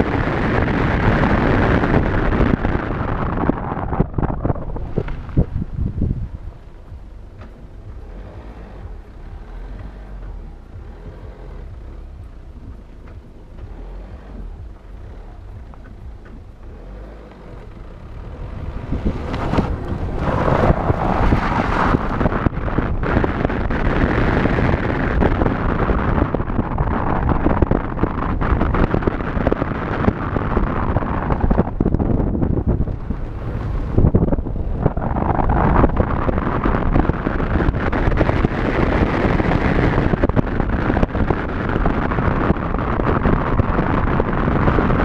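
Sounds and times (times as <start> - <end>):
car engine and road rumble: 0.0 - 45.0
tyre noise on snow: 0.0 - 45.0
wind rushing over microphone: 0.0 - 45.0.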